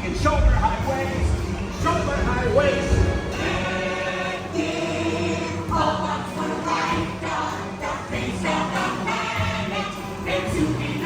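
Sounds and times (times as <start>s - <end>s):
chorus singing show tune: 0.0s - 11.0s
musical accompaniment: 0.0s - 11.0s.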